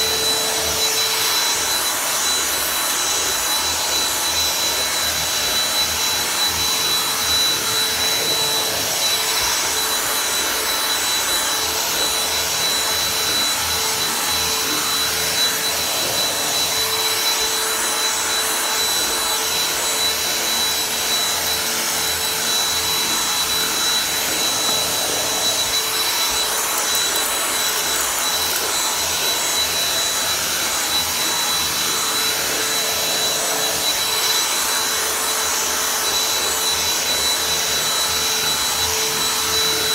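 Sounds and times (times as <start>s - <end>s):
handheld vacuum cleaner running: 0.0s - 39.9s
high-pitched whine: 0.0s - 39.9s.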